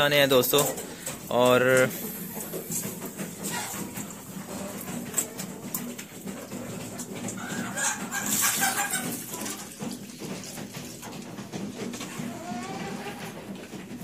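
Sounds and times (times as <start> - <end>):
hens clucking: 0.0 - 14.0
pigeons pecking on wood: 0.1 - 14.0.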